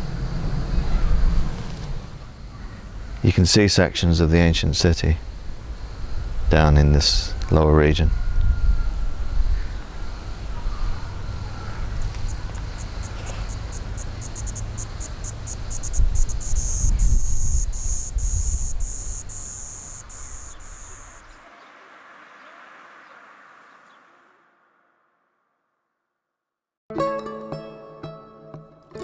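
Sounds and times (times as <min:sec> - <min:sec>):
cicadas buzzing: 0:00.0 - 0:24.8.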